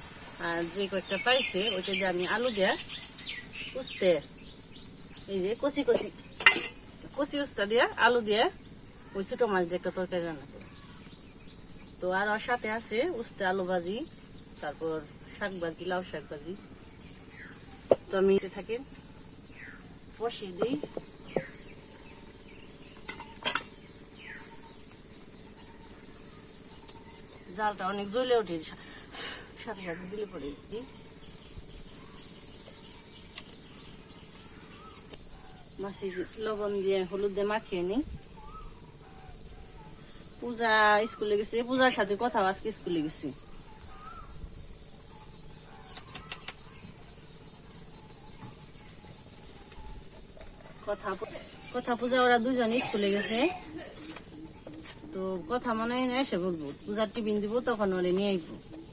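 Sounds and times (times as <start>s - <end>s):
insects chirring: 0.0s - 58.9s.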